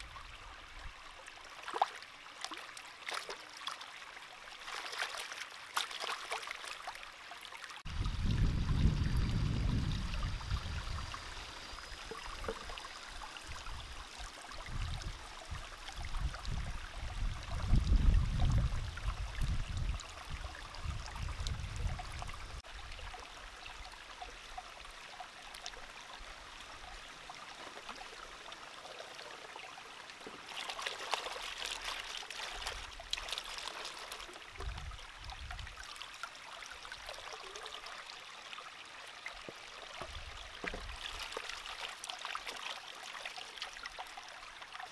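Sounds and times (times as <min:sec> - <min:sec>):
stream running over rock: 0:00.0 - 0:44.9.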